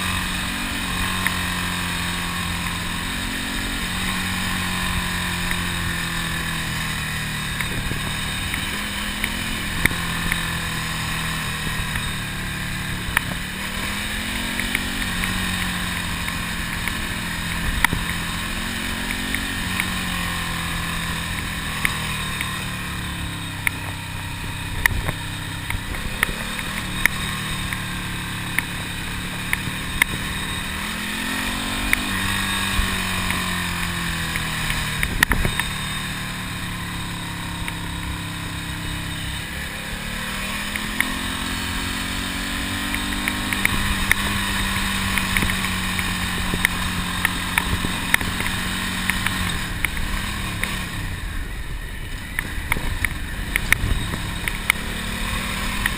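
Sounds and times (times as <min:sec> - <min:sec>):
motorcycle engine: 0:00.0 - 0:55.9
wind and road noise: 0:00.0 - 0:55.9.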